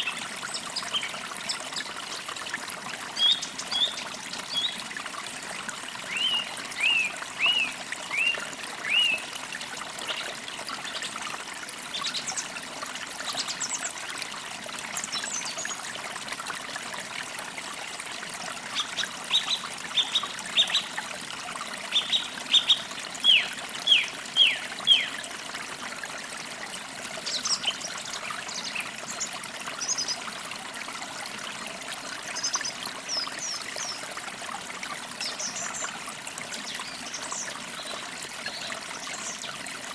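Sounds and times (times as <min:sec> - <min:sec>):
trickling stream: 0:00.0 - 0:39.9.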